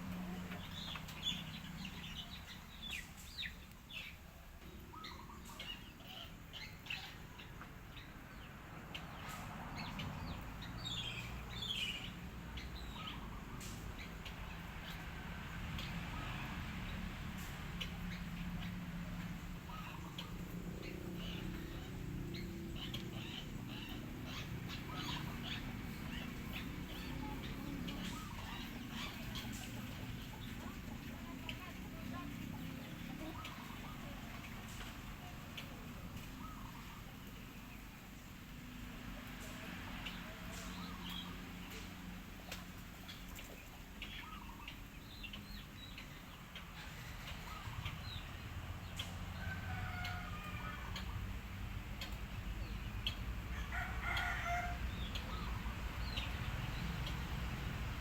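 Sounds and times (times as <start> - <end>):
bird chirping: 0.0 - 17.0, 17.7 - 58.0
low steady background hum: 0.0 - 58.0.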